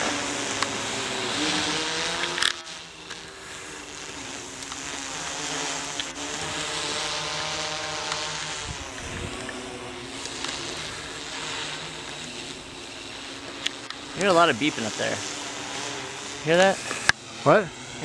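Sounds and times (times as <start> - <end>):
drone hovering buzz: 0.0 - 18.0.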